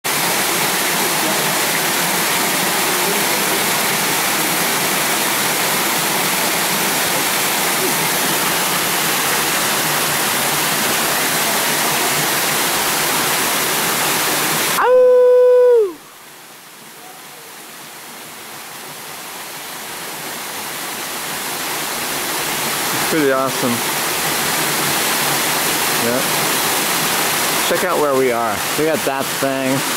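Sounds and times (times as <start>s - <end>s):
waterfall rushing: 0.1s - 29.9s.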